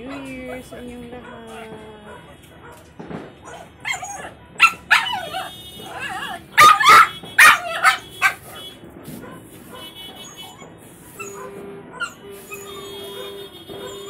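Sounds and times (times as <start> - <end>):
dog barking: 0.1 - 2.9, 3.5 - 14.0.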